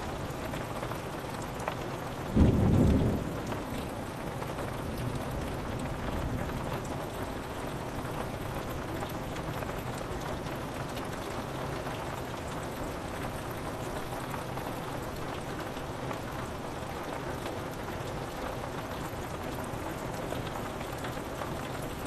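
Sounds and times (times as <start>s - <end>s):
rain on a window: 0.0s - 22.0s.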